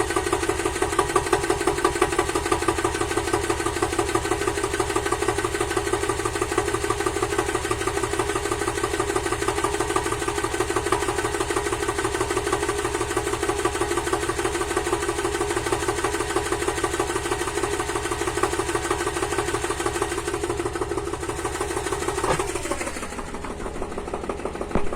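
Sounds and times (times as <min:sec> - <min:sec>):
diesel tractor engine idling: 0:00.0 - 0:24.9.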